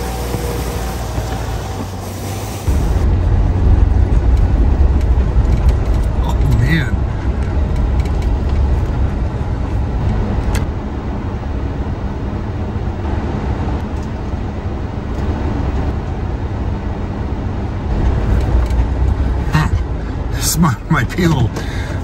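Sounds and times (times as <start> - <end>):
engine idling from inside cabin: 2.7 - 22.0.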